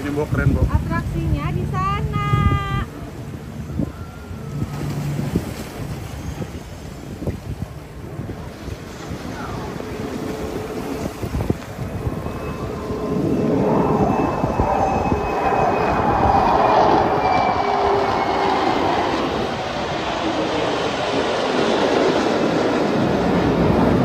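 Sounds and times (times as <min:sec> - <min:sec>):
jet engine roar: 0:00.0 - 0:24.0
faint high whine: 0:01.8 - 0:21.6.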